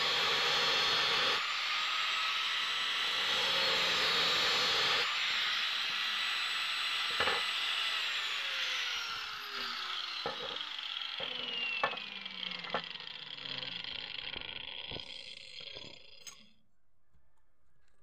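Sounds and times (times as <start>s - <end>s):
angle grinder whining down: 0.0s - 16.6s.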